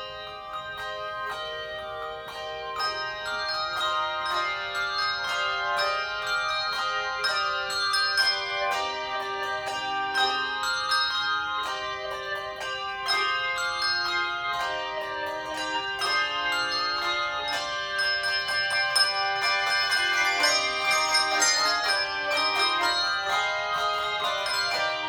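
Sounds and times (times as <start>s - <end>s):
handbell choir playing: 0.0s - 25.0s.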